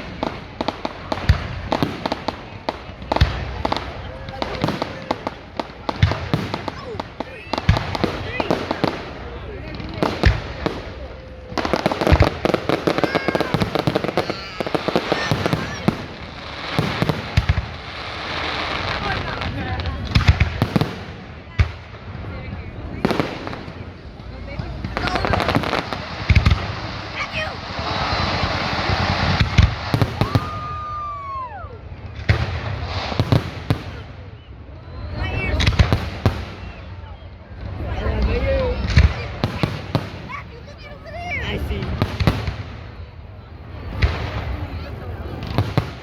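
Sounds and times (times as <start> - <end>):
deep firework booms: 0.0 - 37.0, 37.6 - 46.0
fireworks popping and crackling: 0.0 - 46.0.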